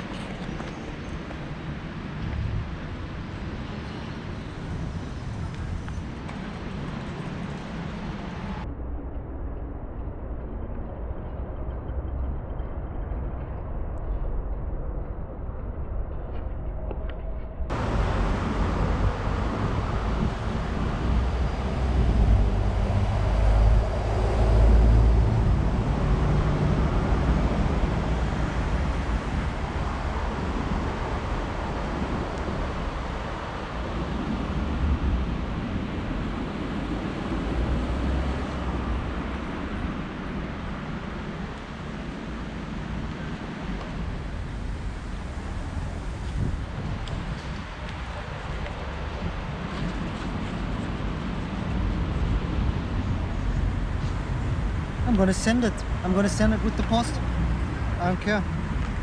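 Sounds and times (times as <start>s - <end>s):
city street traffic roar: 0.0s - 59.0s.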